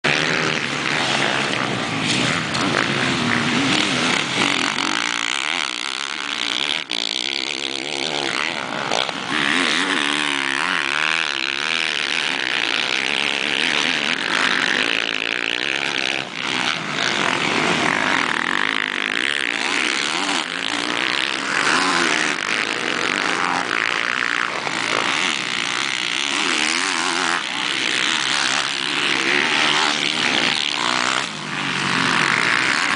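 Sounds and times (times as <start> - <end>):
motorcycle engines revving: 0.0 - 32.9.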